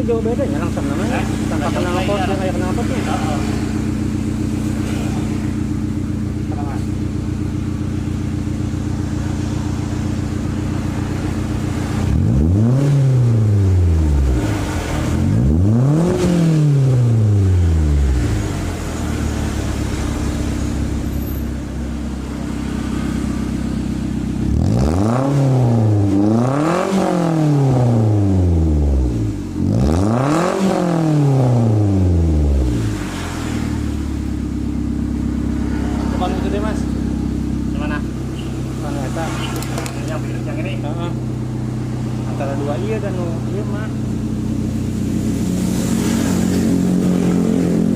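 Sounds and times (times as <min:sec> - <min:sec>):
car engine idling and revving: 0:00.0 - 0:47.9.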